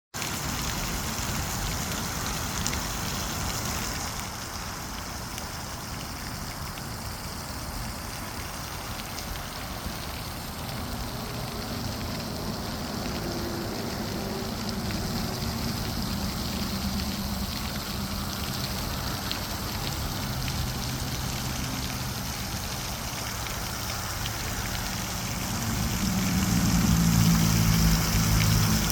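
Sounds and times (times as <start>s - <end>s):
water fountain splashing: 0.2s - 28.9s.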